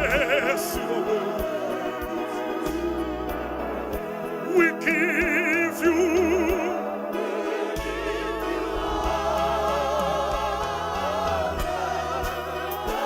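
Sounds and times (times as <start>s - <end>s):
group singing gospel song: 0.0s - 13.0s
low steady accompaniment: 0.0s - 13.0s.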